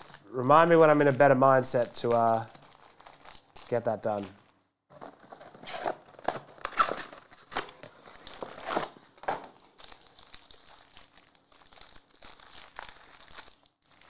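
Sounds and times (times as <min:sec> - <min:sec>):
foil wrappers crinkling and tearing: 0:00.0 - 0:04.4, 0:05.6 - 0:14.0.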